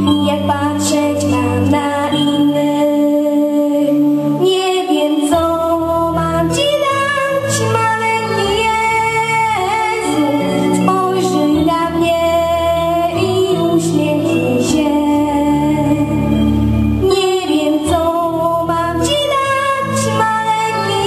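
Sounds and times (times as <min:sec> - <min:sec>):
girl singing into microphone: 0:00.0 - 0:21.0
instrumental accompaniment: 0:00.0 - 0:21.0.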